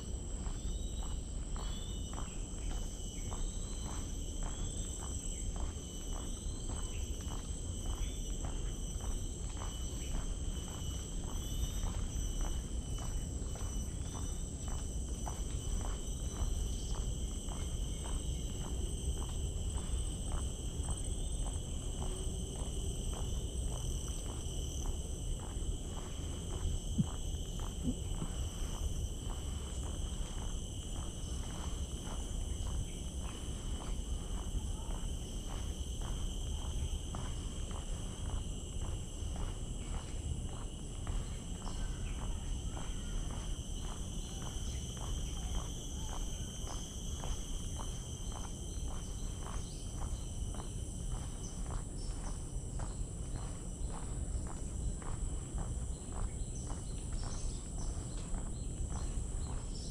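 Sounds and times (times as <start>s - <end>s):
insects chorus: 0.0s - 59.9s
footsteps on wooden boardwalk: 0.2s - 59.9s.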